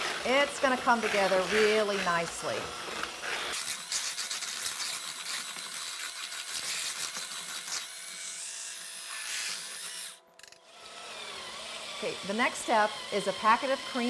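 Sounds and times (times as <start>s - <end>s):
hand mixer motor whirring: 0.0s - 14.0s.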